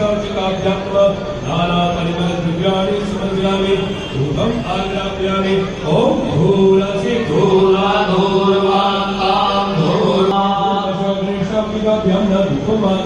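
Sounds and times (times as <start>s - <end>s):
mantras being chanted: 0.0s - 13.0s.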